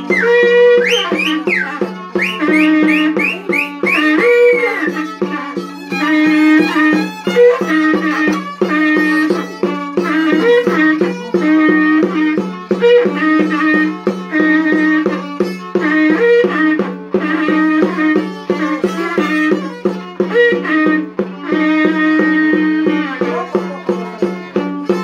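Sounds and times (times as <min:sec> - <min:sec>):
frame drum beating: 0:00.0 - 0:25.0
violin melody: 0:00.0 - 0:25.0.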